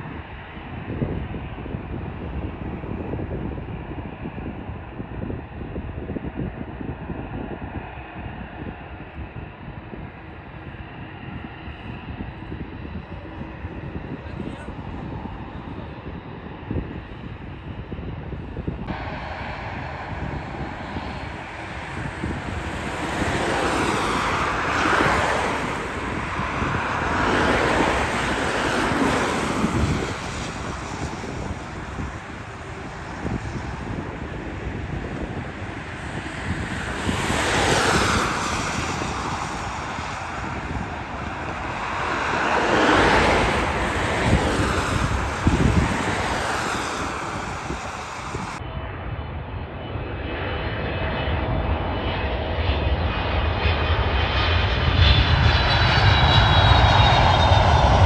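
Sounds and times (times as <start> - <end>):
jet aircraft roar: 0.0 - 58.0
wind buffeting microphone: 0.0 - 58.0.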